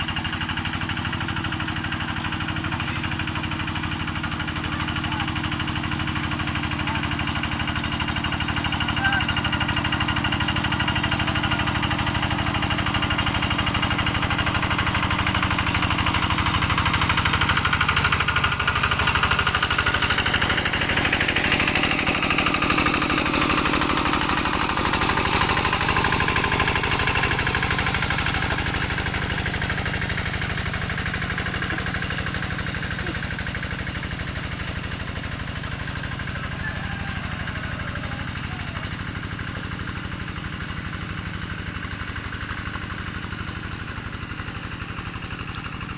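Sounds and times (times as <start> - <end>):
tractor engine chugging: 0.0 - 45.9.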